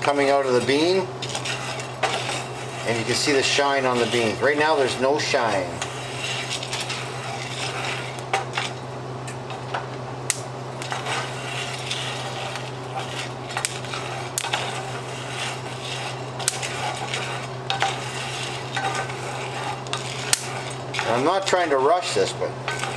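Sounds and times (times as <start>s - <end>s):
spatula scraping skillet: 0.0s - 9.7s, 10.3s - 22.9s
exhaust fan humming: 0.0s - 22.9s.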